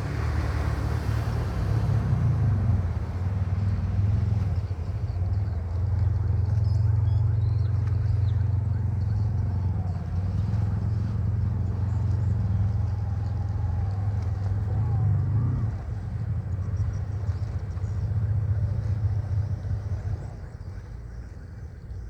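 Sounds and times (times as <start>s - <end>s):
jet ski engine drone: 0.0s - 22.0s.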